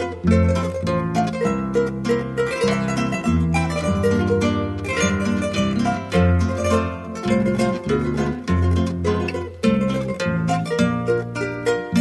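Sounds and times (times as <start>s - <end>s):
plucked instrumental music: 0.0s - 12.0s.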